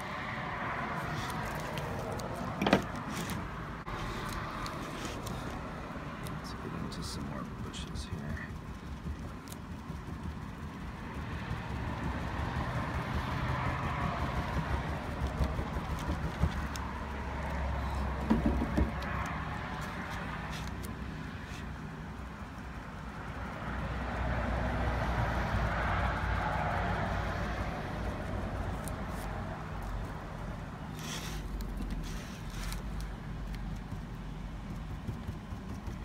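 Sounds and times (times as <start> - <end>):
road traffic rushing past: 0.0 - 36.0.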